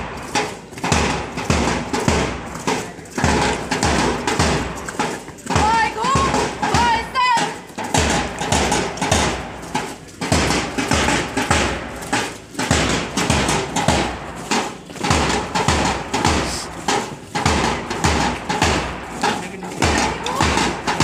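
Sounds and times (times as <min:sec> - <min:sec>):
marching bass drum beating: 0:00.0 - 0:21.0
outdoor noise rushing: 0:00.0 - 0:21.0.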